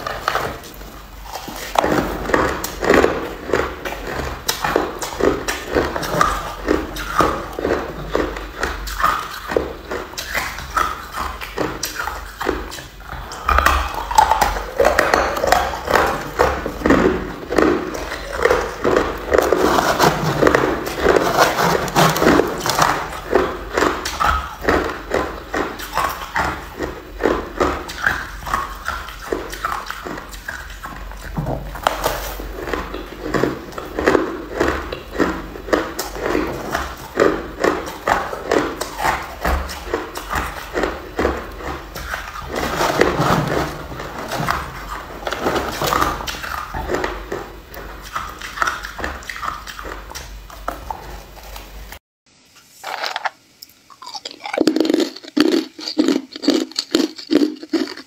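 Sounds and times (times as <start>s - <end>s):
ice being chewed: 0.0s - 52.0s, 52.8s - 58.0s.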